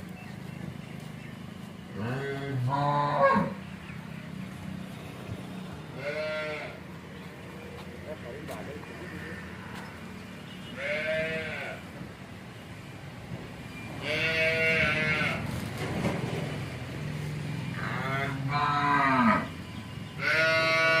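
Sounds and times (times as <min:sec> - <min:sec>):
farm animals calling: 0:00.0 - 0:12.2, 0:13.9 - 0:15.6, 0:16.9 - 0:21.0.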